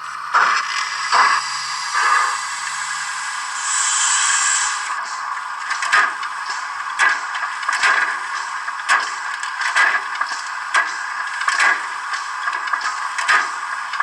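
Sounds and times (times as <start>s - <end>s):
model steam locomotive chuffs: 0.0s - 14.0s.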